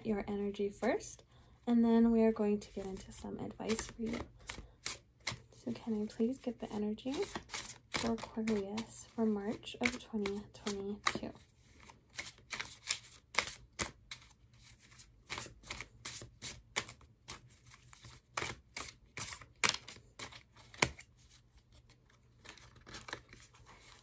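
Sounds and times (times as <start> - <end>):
cards being shuffled: 2.7 - 24.0.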